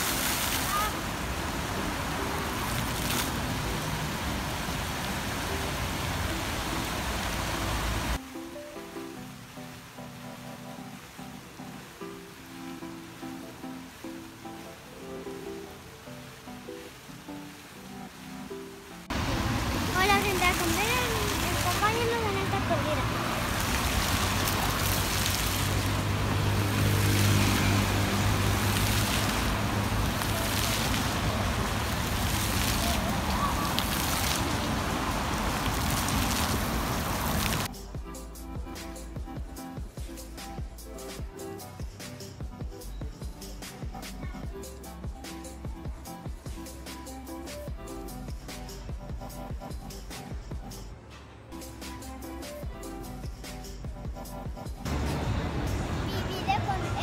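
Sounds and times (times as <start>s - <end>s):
music: 0.0s - 34.9s, 37.4s - 57.0s
fountain water rushing: 0.0s - 50.7s, 51.6s - 57.0s.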